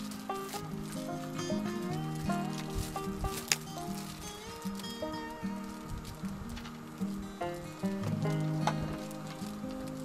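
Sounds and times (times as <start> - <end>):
melody of held notes: 0.0 - 10.0.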